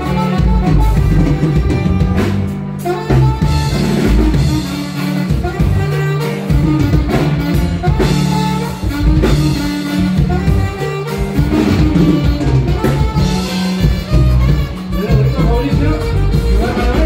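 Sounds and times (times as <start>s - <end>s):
band playing live: 0.0s - 17.0s
melody lead: 0.0s - 17.0s
steady drum beat: 0.0s - 17.0s
walking bass line: 0.0s - 17.0s.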